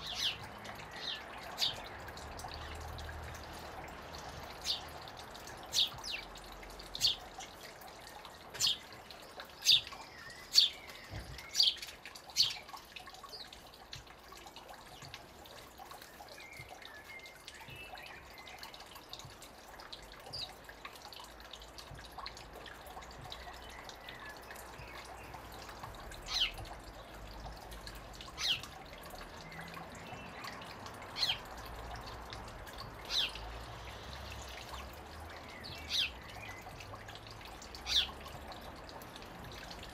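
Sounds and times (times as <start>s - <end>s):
water trickling into a pool: 0.0s - 39.9s.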